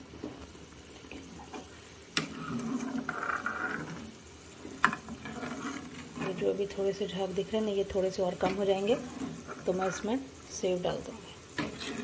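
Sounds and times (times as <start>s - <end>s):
gravy bubbling in a pan: 0.0s - 12.0s.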